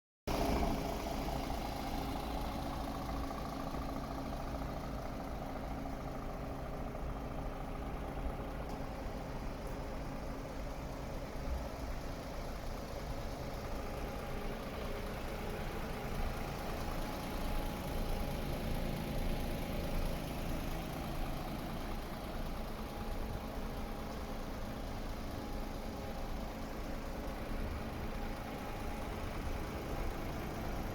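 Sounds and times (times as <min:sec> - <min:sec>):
diesel truck engine idling: 0:00.3 - 0:30.9.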